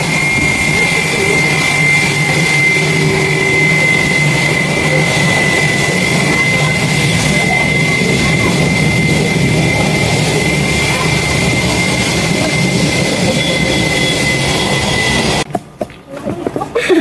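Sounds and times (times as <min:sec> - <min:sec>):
high steady whine: 0:00.0 - 0:15.6
airliner engines rumbling: 0:00.0 - 0:17.0.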